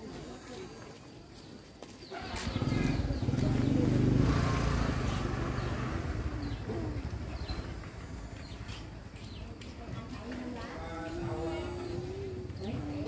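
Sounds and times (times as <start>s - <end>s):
birds chirping: 0.0s - 13.0s
motor vehicle passing by: 2.0s - 13.0s.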